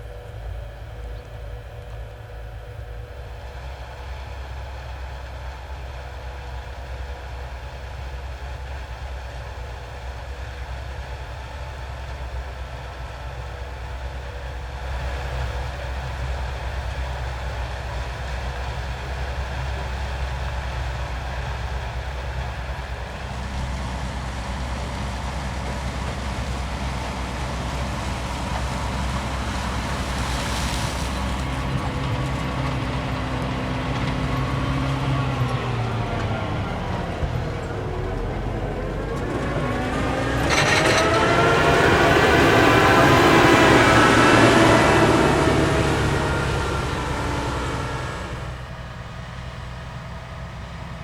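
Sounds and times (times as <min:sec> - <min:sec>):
low diesel engine drone: 0:00.0 - 0:51.0.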